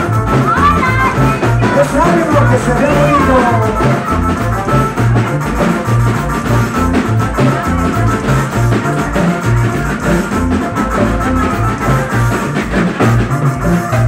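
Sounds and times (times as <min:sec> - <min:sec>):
live band dance music: 0:00.0 - 0:14.0.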